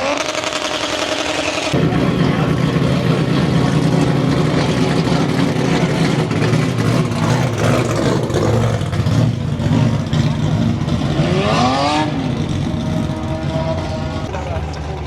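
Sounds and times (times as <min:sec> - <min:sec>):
car engine revving: 0:00.0 - 0:15.0
car engines rumbling: 0:00.0 - 0:15.0
crowd chatter: 0:00.0 - 0:15.0.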